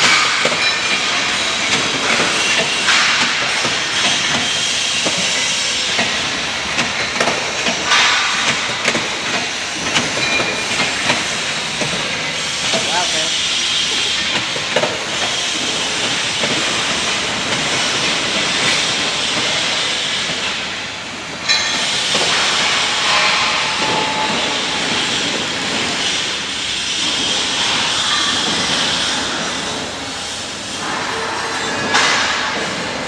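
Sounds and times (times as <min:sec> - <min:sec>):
sharp machine clack: 0:00.0 - 0:20.7, 0:21.4 - 0:29.1
punching machine running: 0:00.0 - 0:33.0.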